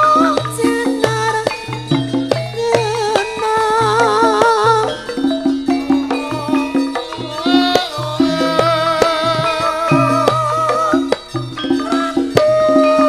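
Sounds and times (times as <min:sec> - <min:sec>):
gamelan music with drum strokes: 0:00.0 - 0:13.0
woman singing with vibrato: 0:00.0 - 0:13.0.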